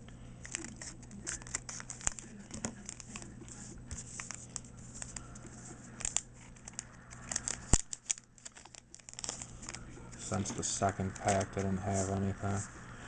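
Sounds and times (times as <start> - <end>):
cards rustling and flicking: 0.4 - 12.7.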